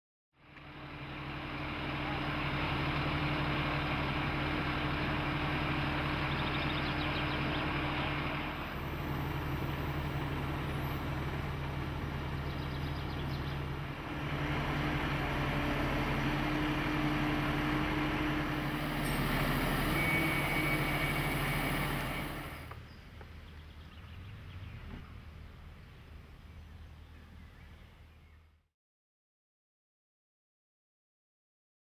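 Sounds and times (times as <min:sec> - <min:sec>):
large engine droning: 0:00.4 - 0:28.3.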